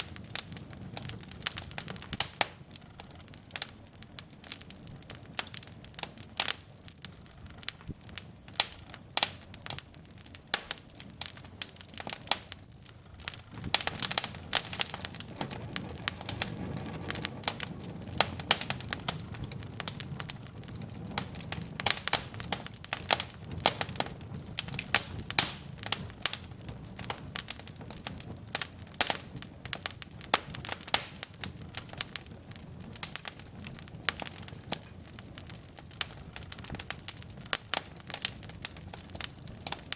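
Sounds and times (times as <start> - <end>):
logs crackling in fireplace: 0.0 - 39.9
low rush of flame: 0.0 - 39.9.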